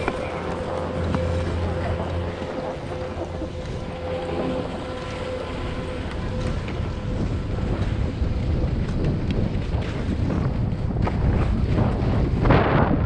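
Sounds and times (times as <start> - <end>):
faint hum: 0.0 - 11.9
wind rumbling on microphone: 0.0 - 13.0.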